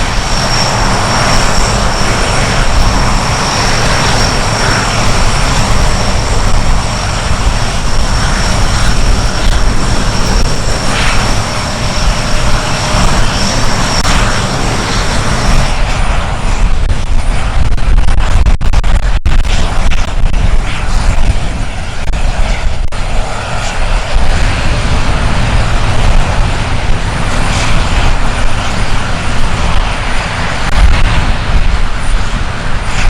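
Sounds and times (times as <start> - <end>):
high-pitched engine whine: 0.0 - 33.0
turboprop engines running: 0.0 - 33.0.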